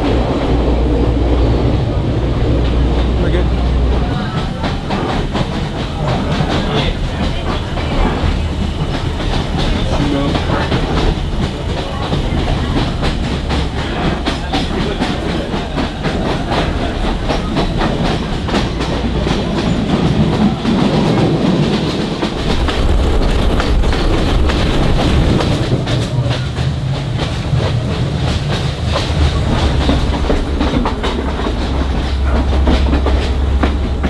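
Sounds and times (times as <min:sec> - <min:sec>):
train carriages rumbling: 0:00.0 - 0:34.0.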